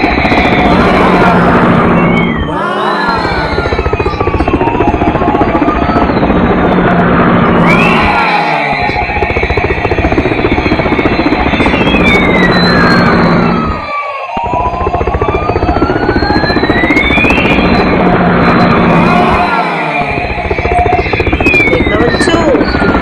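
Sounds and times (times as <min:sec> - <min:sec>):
helicopter rotor chopping: 0:00.0 - 0:23.0.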